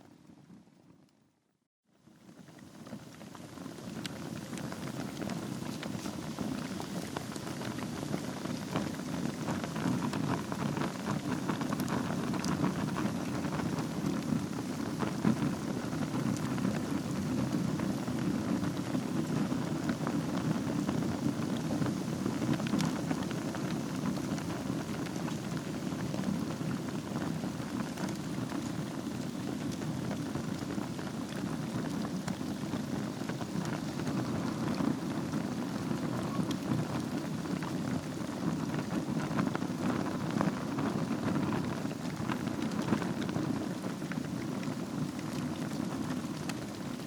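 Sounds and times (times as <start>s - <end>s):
wood fire burning: 2.0s - 47.0s
fire crackling and popping: 2.2s - 47.0s.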